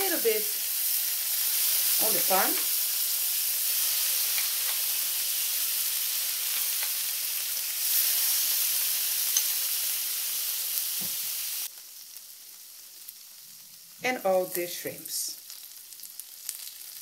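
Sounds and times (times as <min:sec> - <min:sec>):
butter sizzling on grill pan: 0:00.0 - 0:14.5, 0:15.4 - 0:17.0.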